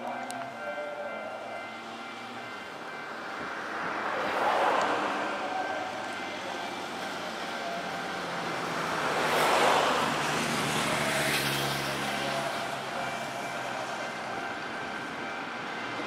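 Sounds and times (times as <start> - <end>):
vehicles passing by: 0.0 - 16.0.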